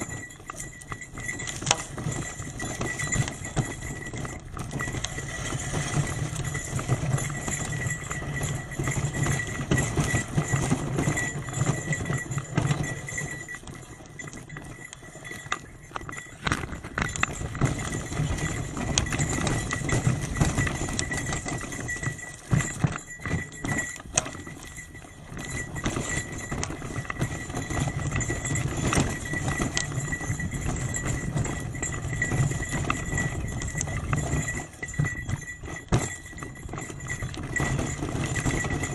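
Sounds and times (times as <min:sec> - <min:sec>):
bicycle rattling on rough road: 0:00.0 - 0:38.9.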